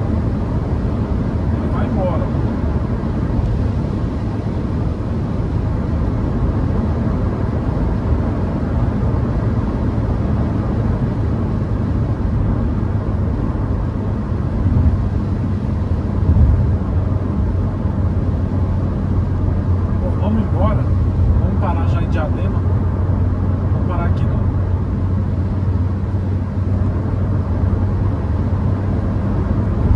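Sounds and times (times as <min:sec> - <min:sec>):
car engine hum in cabin: 0:00.0 - 0:29.9.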